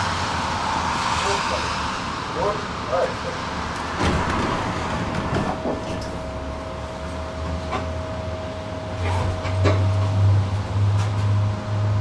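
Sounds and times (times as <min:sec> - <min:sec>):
tram humming: 0:00.0 - 0:12.0.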